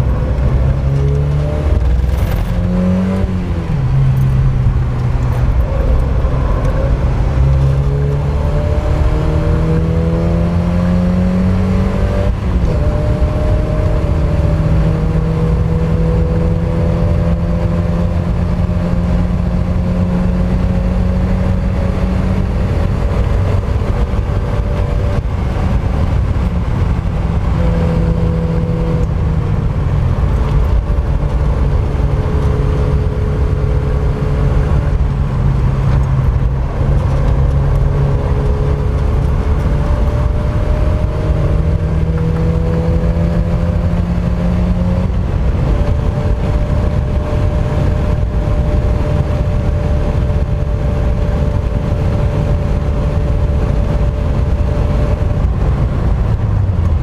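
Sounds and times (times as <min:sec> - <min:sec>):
car engine revving on track: 0:00.0 - 0:57.0.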